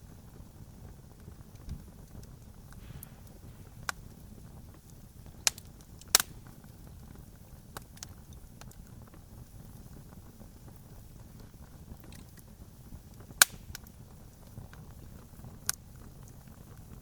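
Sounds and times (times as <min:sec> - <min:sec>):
low rumble of fire: 0:00.0 - 0:17.0
burning wood popping: 0:00.7 - 0:17.0.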